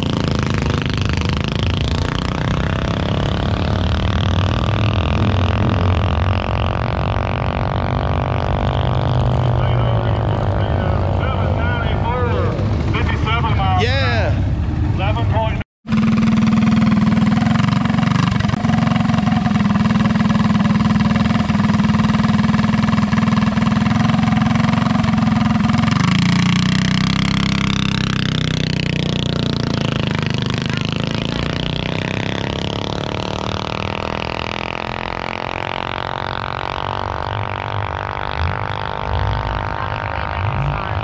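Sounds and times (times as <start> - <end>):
mini bike engine revving: 0.0 - 13.1, 15.9 - 41.0.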